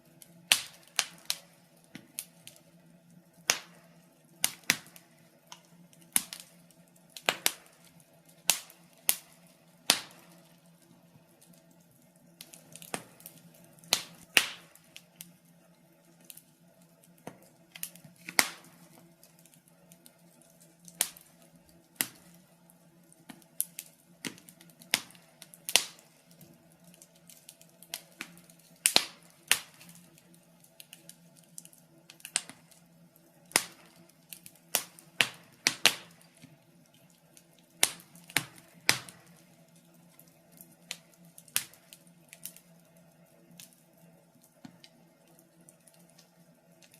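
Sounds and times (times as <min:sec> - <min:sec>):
faint steady low hum: 0:00.0 - 0:46.9
wood fire crackling and popping: 0:00.0 - 0:46.9.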